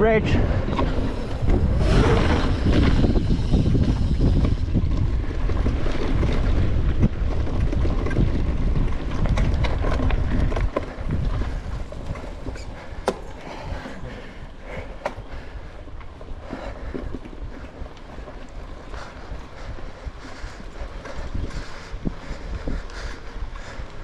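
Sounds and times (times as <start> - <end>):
bike rattling: 0.0 - 24.0
bike tyre rumble: 0.0 - 24.0
wind buffeting: 0.0 - 24.0.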